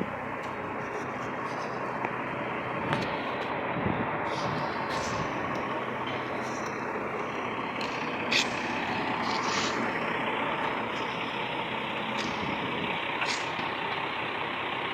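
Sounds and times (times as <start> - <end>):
truck engine running: 0.0 - 14.9.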